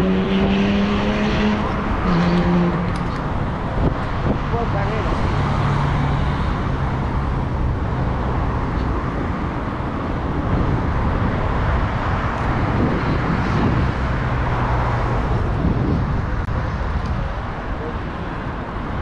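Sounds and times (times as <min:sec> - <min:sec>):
motor vehicles passing: 0:00.0 - 0:19.0.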